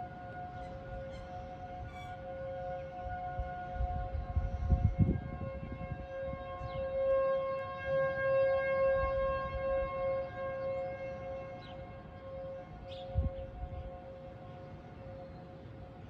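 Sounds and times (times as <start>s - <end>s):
tornado warning sirens: 0.0s - 16.0s.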